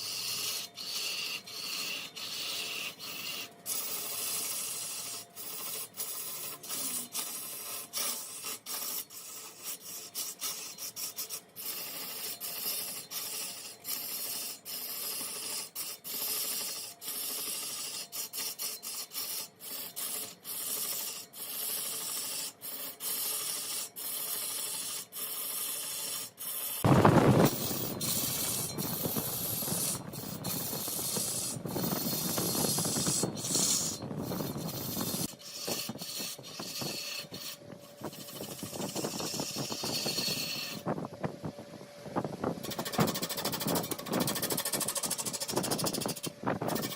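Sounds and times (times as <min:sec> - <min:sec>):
tool scraping wood on a lathe: 0:00.0 - 0:41.2, 0:42.5 - 0:46.9.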